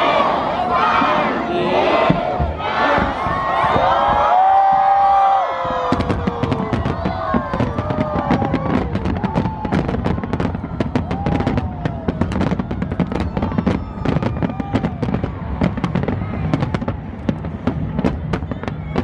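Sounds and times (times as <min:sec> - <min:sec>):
fireworks bangs and crackling: 0:02.0 - 0:19.0.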